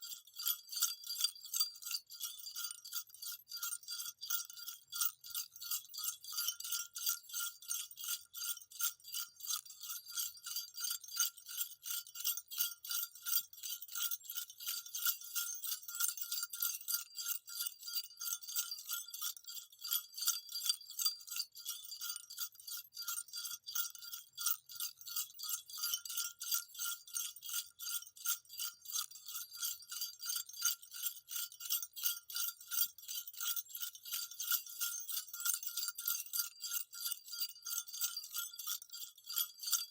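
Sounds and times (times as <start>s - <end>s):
jingle bells shaken: 0.0s - 39.9s.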